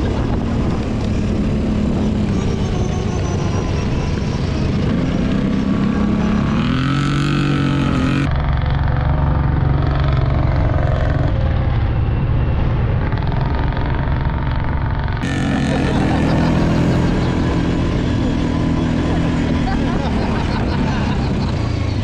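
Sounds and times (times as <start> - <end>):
atv engines revving: 0.0 - 22.0.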